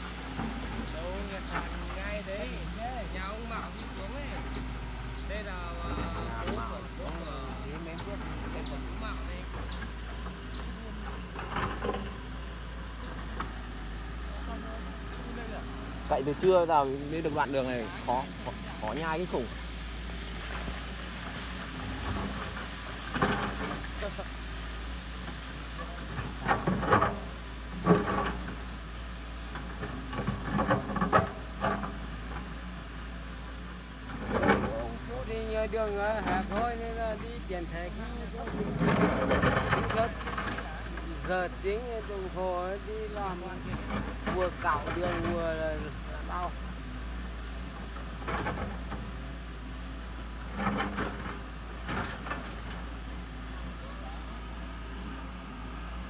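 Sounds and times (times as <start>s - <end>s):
bucket scraping rock and soil: 0.0s - 32.5s, 34.0s - 46.7s
excavator diesel engine running: 0.0s - 56.0s.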